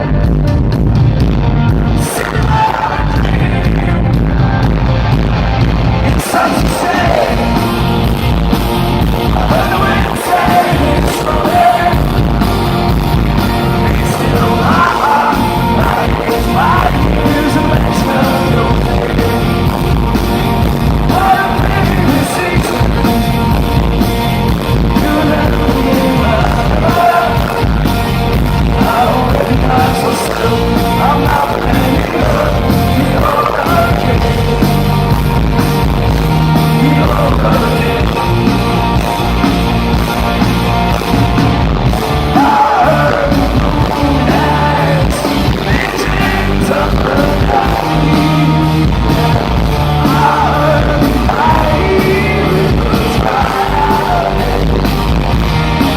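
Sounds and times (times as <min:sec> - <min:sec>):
man singing lead vocal: 0:00.0 - 0:00.5, 0:01.9 - 0:05.0, 0:06.0 - 0:08.0, 0:09.0 - 0:39.0, 0:42.2 - 0:55.1
rock band playing live: 0:00.0 - 0:55.9.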